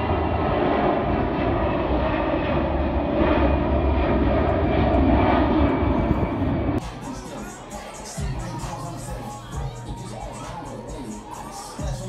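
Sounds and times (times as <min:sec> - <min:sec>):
jet airliner flying overhead: 0:00.0 - 0:12.0.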